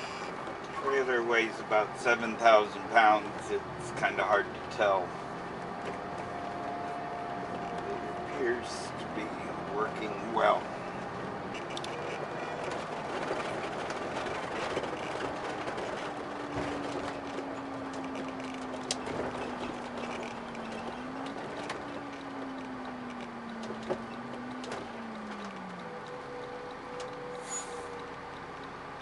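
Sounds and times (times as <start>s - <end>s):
road and engine noise: 0.0s - 29.0s.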